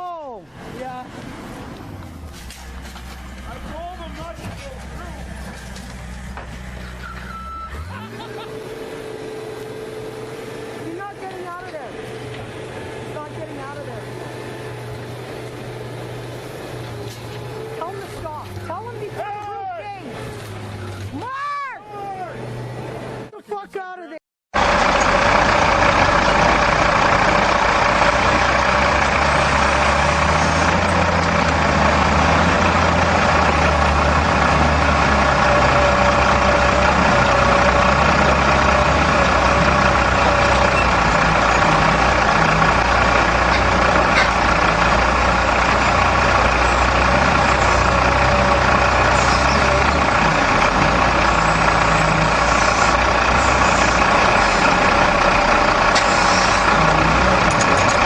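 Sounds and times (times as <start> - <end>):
heavy machine engine running: 0.5 - 19.2, 24.6 - 58.0.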